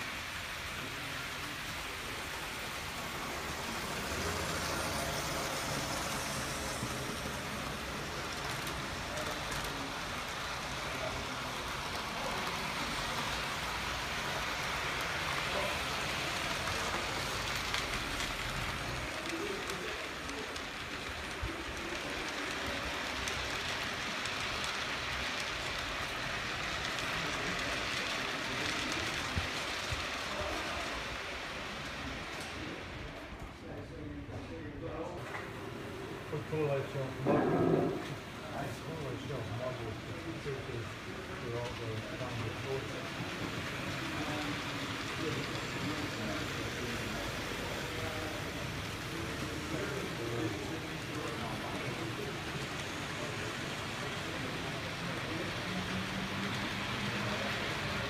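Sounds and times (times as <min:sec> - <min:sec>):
model train rolling hiss: 0:00.0 - 0:33.9, 0:35.0 - 0:58.0.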